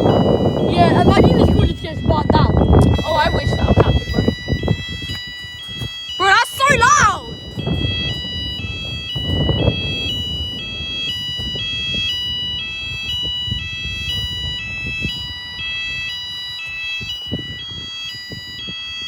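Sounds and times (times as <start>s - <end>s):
steady high alarm tone: 0.0s - 19.0s
two-tone electronic fire alarm: 0.0s - 19.0s.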